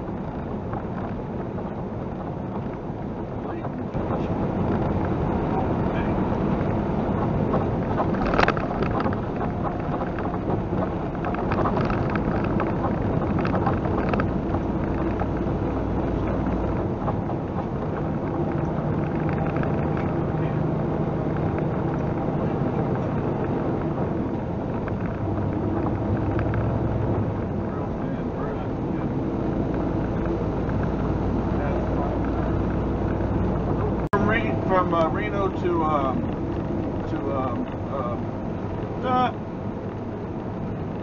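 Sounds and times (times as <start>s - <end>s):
road and wind noise: 0.0s - 41.0s
truck engine running: 0.0s - 41.0s.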